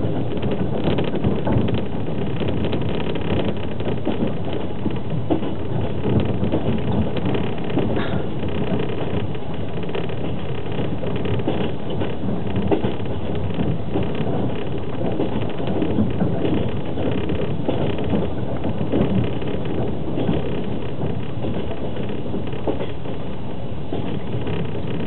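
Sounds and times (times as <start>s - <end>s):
passenger train running at speed: 0.0s - 25.0s.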